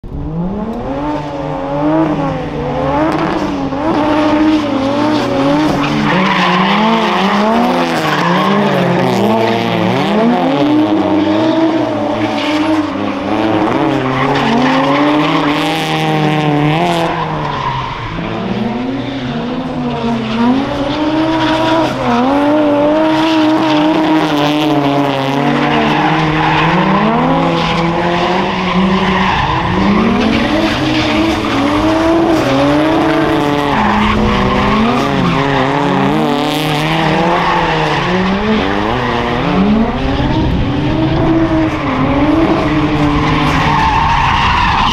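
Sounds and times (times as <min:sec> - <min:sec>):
car engine revving hard: 0:00.2 - 0:44.9.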